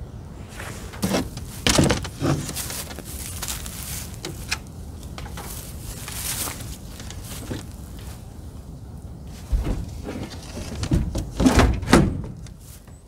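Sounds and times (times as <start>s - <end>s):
equipment scraping and rustling: 0.4s - 8.6s, 9.2s - 13.0s.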